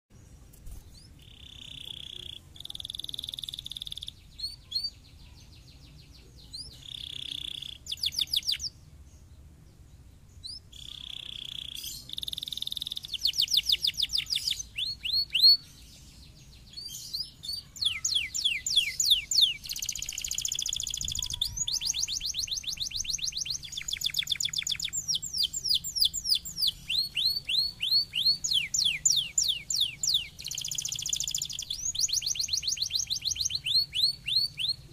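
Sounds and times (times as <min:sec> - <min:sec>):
canary singing trills: 0:00.6 - 0:34.9.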